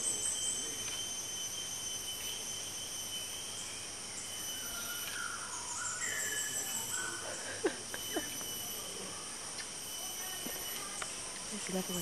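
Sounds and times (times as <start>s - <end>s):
insects droning shrilly: 0.0s - 12.0s
short gliding insect calls: 0.0s - 12.0s.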